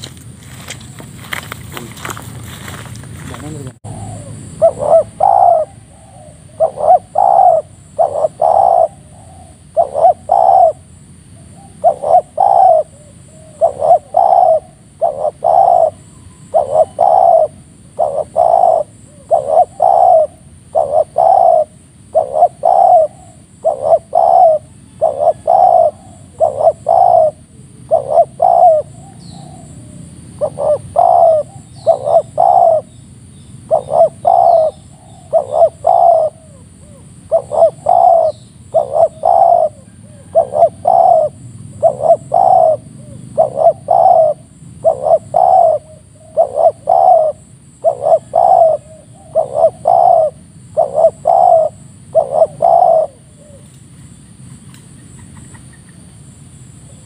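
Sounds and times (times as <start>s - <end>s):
small birds chirping: 0.0s - 56.2s
dove cooing: 3.4s - 32.9s, 33.6s - 53.7s.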